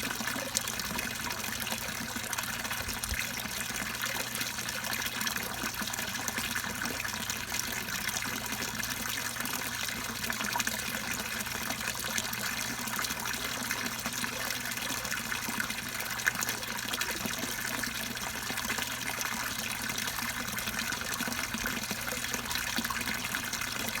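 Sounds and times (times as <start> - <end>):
water splashing into pond: 0.0 - 24.0.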